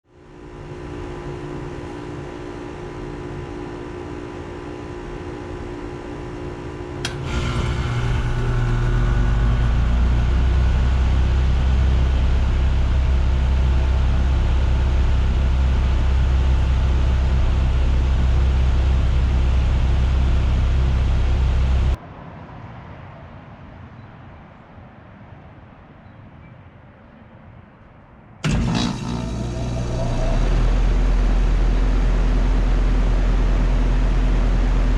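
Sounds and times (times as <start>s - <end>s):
compressor and fan droning: 0.0s - 22.0s, 28.4s - 34.9s
heat pump humming: 0.1s - 22.0s, 28.4s - 34.9s.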